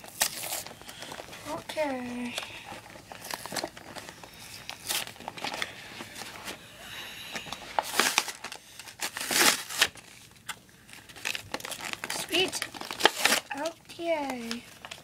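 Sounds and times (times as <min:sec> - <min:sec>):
plastic blister pack crinkling and tearing: 0:00.0 - 0:06.6, 0:07.3 - 0:15.0.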